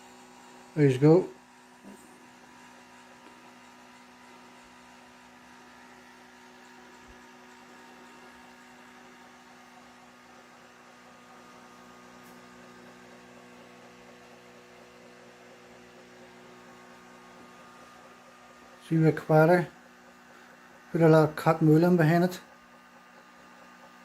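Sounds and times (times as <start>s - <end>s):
small electric motors humming: 0.0s - 24.0s.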